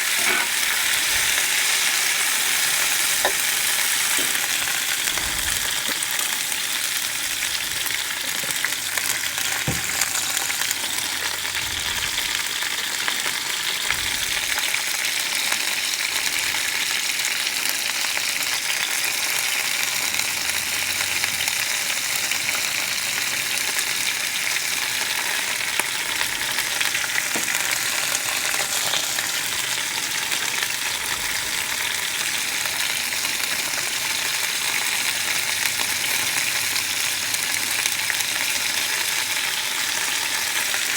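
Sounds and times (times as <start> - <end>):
vegetables sizzling in a skillet: 0.0 - 40.9.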